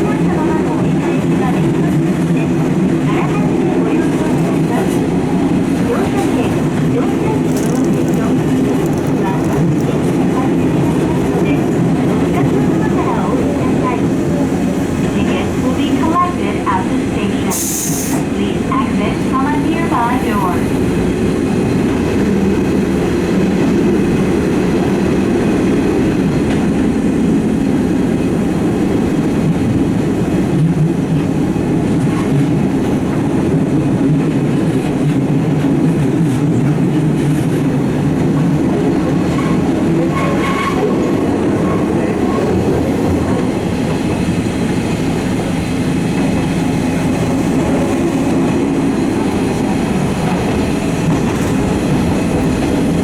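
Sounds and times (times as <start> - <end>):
rumble of wheels on rail: 0.0 - 53.0.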